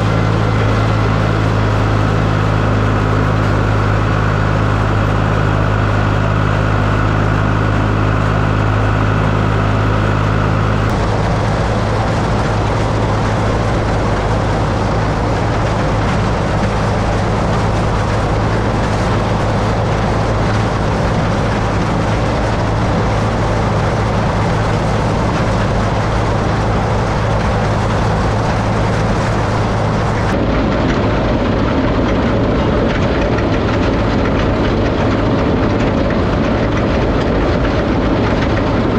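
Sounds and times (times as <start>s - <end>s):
tractor running under load: 0.0s - 38.9s.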